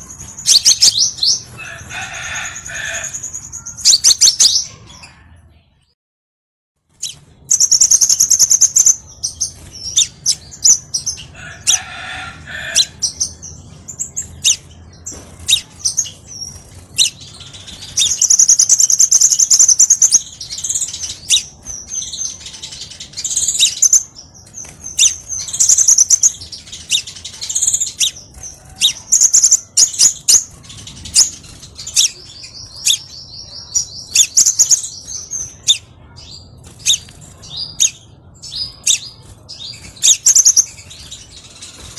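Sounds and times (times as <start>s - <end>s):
bird singing chirps and trills: 0.0s - 5.9s, 6.9s - 41.9s.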